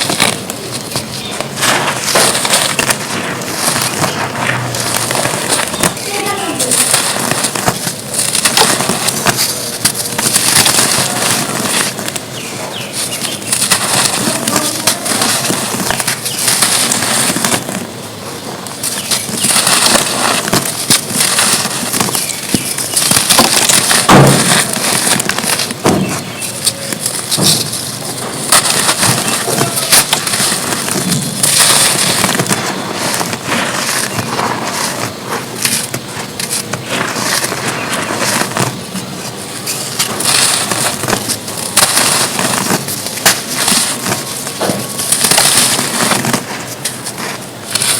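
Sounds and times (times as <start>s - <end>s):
dirt crumbling and crunching: 0.0s - 47.9s.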